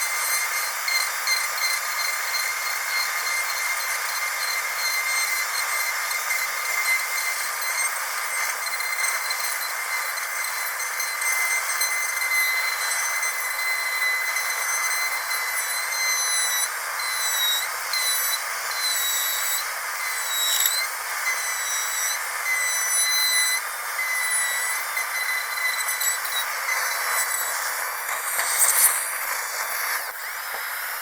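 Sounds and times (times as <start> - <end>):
dentist's drill whining: 0.0 - 31.0
steady hiss: 0.0 - 31.0.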